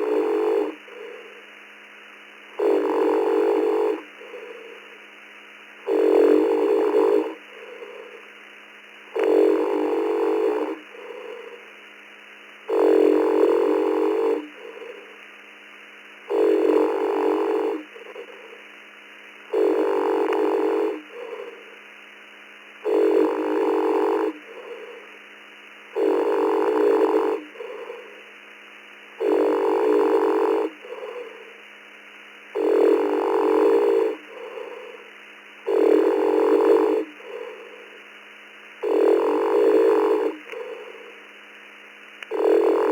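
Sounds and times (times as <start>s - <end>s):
person snoring over radio: 0.0s - 1.6s, 2.5s - 5.1s, 5.8s - 8.4s, 9.0s - 15.3s, 16.2s - 18.7s, 19.4s - 21.9s, 22.8s - 25.2s, 25.9s - 28.4s, 29.2s - 31.7s, 32.5s - 38.1s, 38.7s - 41.4s, 42.2s - 42.9s
steady low hum: 0.0s - 42.9s.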